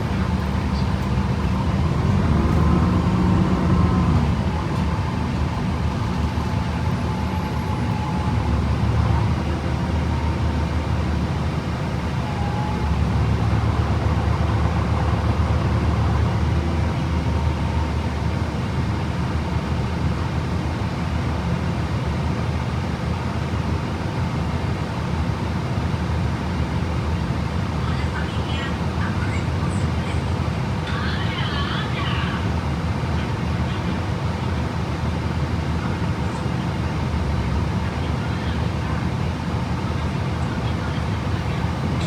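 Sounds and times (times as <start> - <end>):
bus engine and road noise: 0.0 - 42.0.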